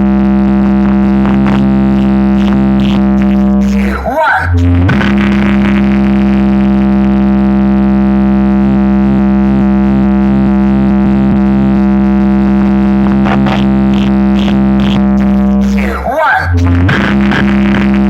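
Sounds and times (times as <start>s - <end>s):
buzzing electronic tone: 0.0s - 15.9s, 16.5s - 18.0s
deep bass drone: 0.0s - 18.0s.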